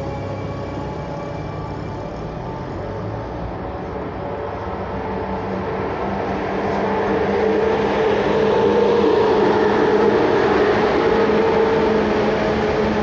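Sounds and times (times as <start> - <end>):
electric locomotives approaching: 0.0 - 13.0.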